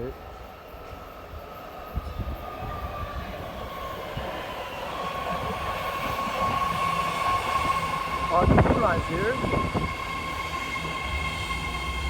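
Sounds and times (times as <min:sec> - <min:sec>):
train pulling into station: 0:00.0 - 0:12.0.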